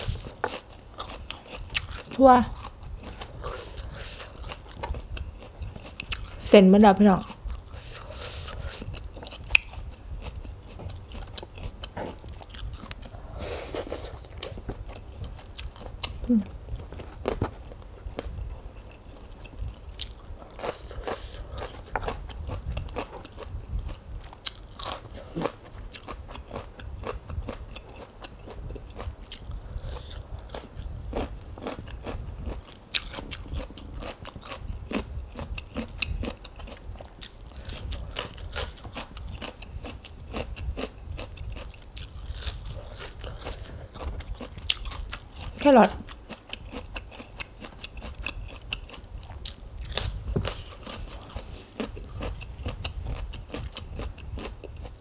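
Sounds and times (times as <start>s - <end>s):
person chewing crunchy food: 0.0s - 6.5s, 7.2s - 55.0s.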